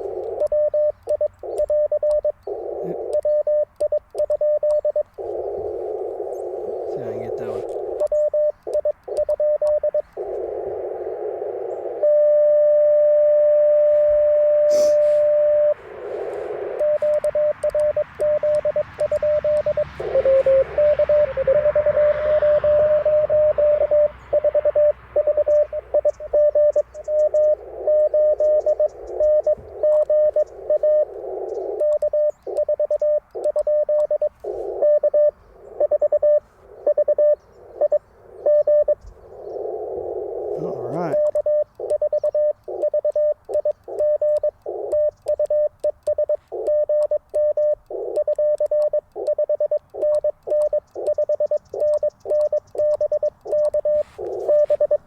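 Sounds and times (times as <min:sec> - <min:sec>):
morse code tones: 0:00.0 - 0:55.0
receiver hiss: 0:00.0 - 0:55.0.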